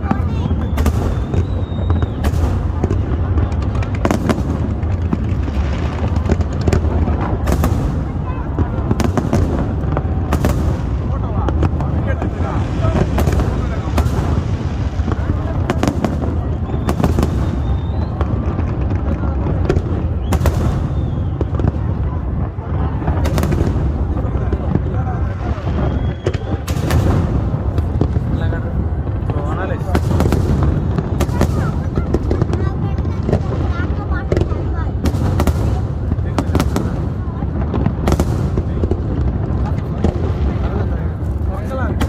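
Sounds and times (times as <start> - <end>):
fireworks sharp bangs: 0.0 - 42.0
low rumble of booms: 0.0 - 42.0.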